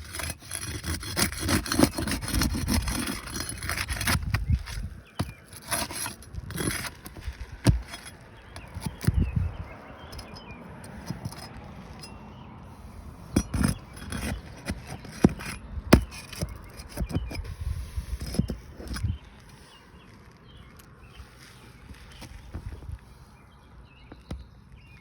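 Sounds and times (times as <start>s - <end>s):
pry bar scraping under shingles: 0.0s - 25.0s.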